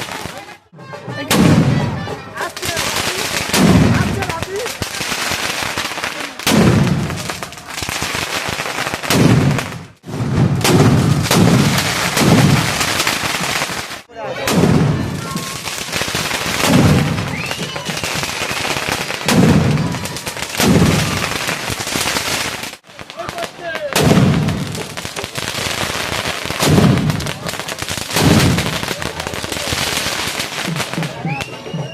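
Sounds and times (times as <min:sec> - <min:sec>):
fireworks booming and crackling: 0:00.0 - 0:31.9.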